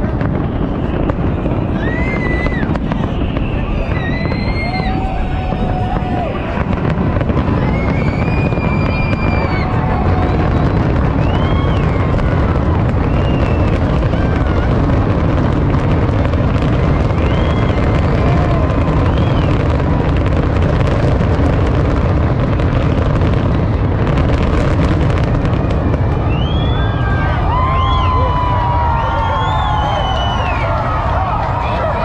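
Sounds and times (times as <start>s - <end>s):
fireworks booming: 0.0s - 32.0s
fireworks crackling: 0.0s - 32.0s.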